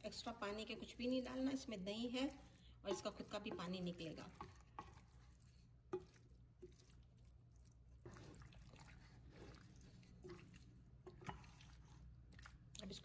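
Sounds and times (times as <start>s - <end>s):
wooden spoon stirring thick food: 0.0s - 13.0s.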